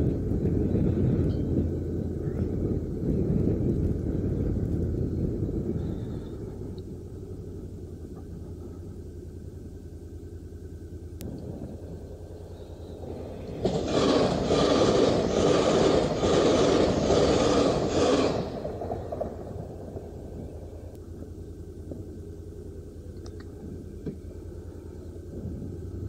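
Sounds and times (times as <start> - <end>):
motorcycle engine idling: 0.0 - 26.0
train passing with rushing rumble: 0.0 - 26.0.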